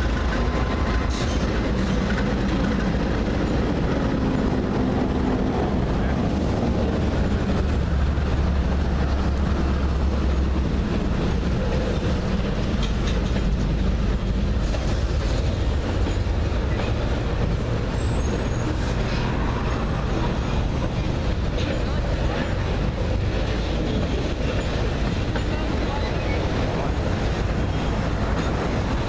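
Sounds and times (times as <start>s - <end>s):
diesel locomotive drone: 0.0s - 29.0s
train wheels rumbling and clattering: 0.0s - 29.0s.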